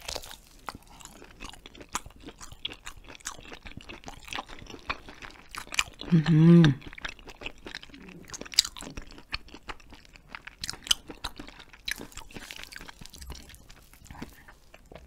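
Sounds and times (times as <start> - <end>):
chewing with mouth clicks: 0.0 - 15.0.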